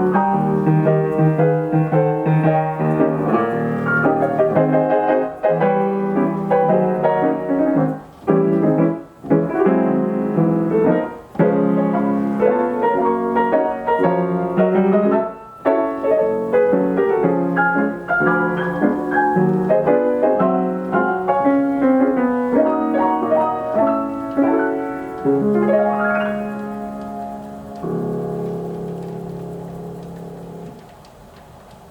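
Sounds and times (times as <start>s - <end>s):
player piano playing chords and melody: 0.0s - 31.9s.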